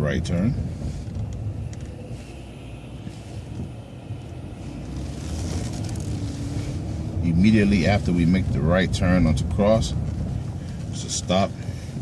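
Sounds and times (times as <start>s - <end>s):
road noise hiss: 0.0s - 12.0s
vehicle engine rumble: 0.0s - 12.0s.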